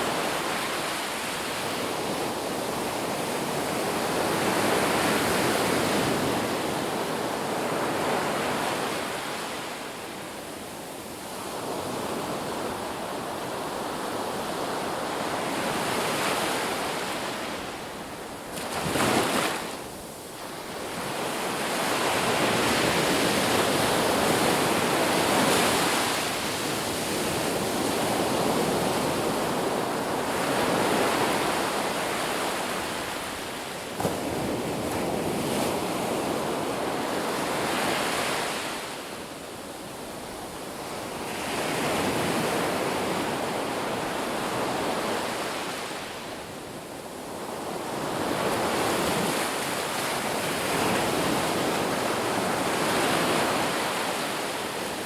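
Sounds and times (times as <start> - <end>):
ocean surf breaking on a beach: 0.0 - 55.0.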